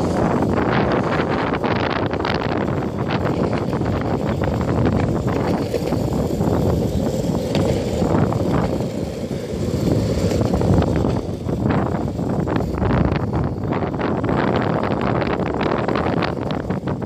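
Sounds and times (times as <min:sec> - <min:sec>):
skateboard wheels rolling on asphalt: 0:00.0 - 0:17.0
wind buffeting microphone: 0:00.0 - 0:17.0.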